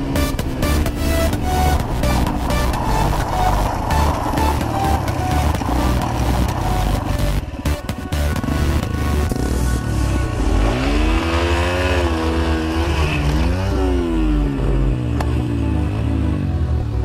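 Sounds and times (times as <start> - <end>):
dirt bike engine revving: 0.0 - 15.1.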